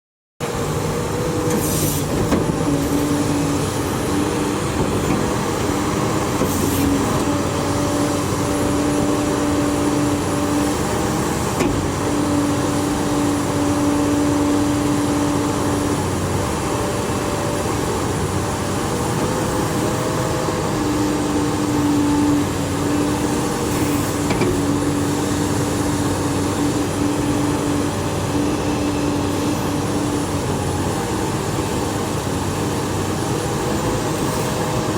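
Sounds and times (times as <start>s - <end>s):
excavator engine and hydraulics: 0.4s - 34.9s.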